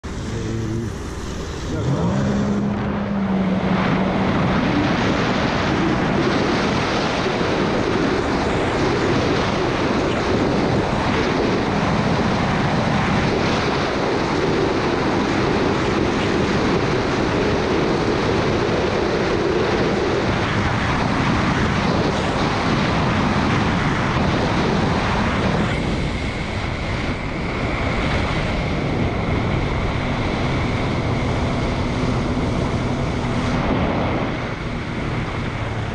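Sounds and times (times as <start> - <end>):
high whine: 0.0 - 35.9
rush of wind and water: 0.0 - 35.9
watercraft engine: 0.0 - 35.9.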